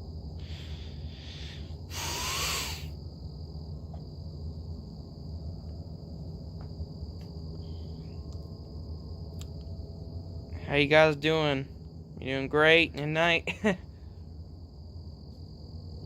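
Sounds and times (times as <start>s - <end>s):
constant low hum: 0.0s - 16.0s
crickets chirring: 0.0s - 16.0s.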